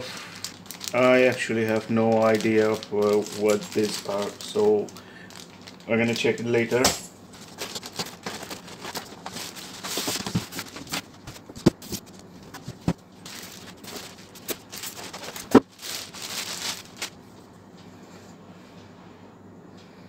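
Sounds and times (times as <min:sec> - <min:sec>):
foam packing rubbing and creaking: 0:00.0 - 0:06.8, 0:07.4 - 0:17.2
plastic bag crinkling: 0:00.0 - 0:17.2.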